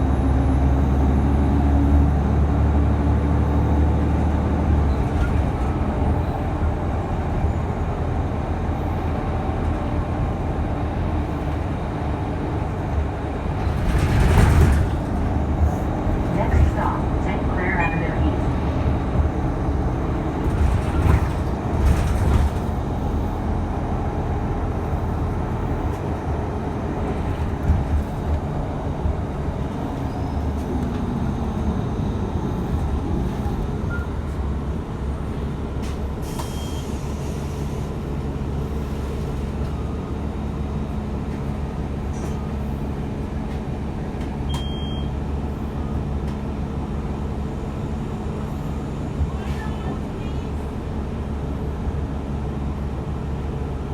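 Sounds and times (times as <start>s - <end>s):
transit vehicle rumble: 0.0s - 53.9s.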